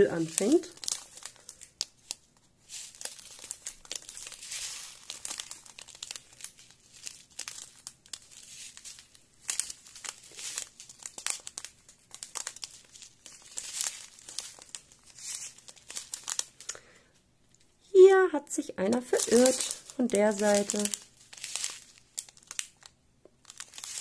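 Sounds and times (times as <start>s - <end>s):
plastic packets crinkling: 0.0s - 17.7s, 18.8s - 24.0s.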